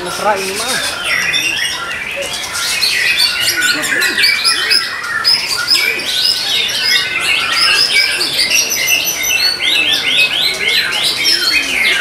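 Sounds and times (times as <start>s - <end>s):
bird song chirps and whistles: 0.9s - 12.0s.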